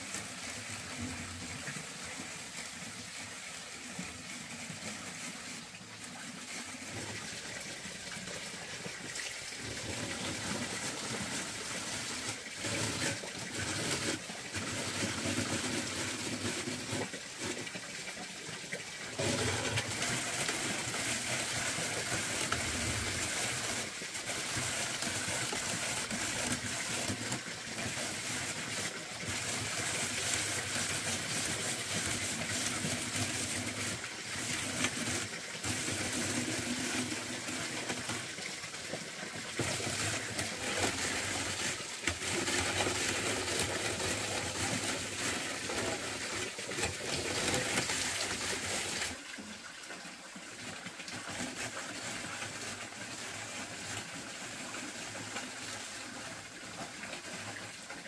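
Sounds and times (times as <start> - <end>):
rush of running water: 0.0 - 58.0.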